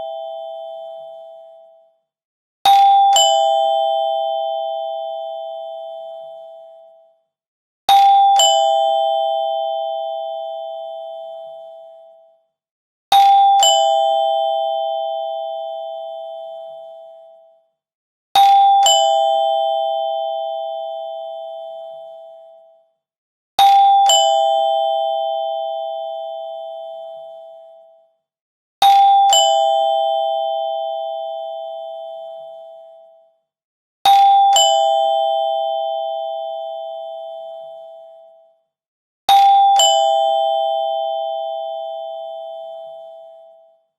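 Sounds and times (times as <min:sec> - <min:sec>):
two-tone doorbell chime: 0:02.7 - 0:07.2, 0:07.9 - 0:12.4, 0:13.2 - 0:17.6, 0:18.4 - 0:22.8, 0:23.6 - 0:28.1, 0:28.8 - 0:33.4, 0:34.1 - 0:38.7, 0:39.3 - 0:43.9.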